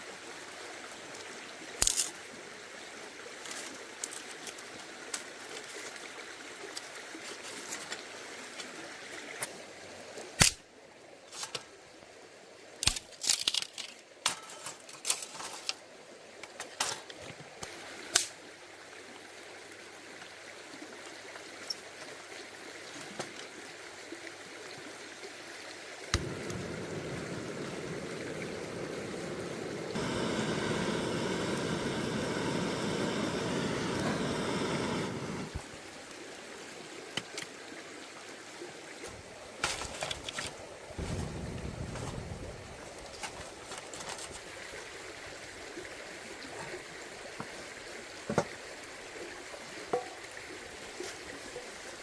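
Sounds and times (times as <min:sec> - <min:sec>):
forest stream running: 0:00.0 - 0:52.0.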